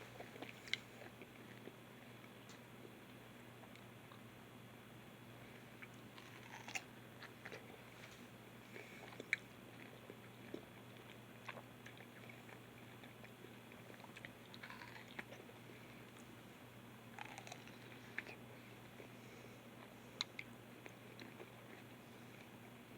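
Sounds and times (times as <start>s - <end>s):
chewing juicy fruit: 0.0s - 4.3s, 5.5s - 16.5s, 17.1s - 22.9s.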